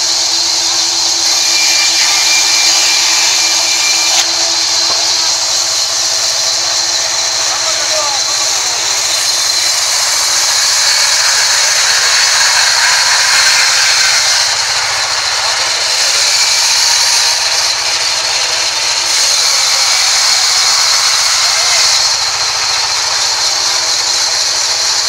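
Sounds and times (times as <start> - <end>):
band saw cutting a log: 0.0 - 25.0.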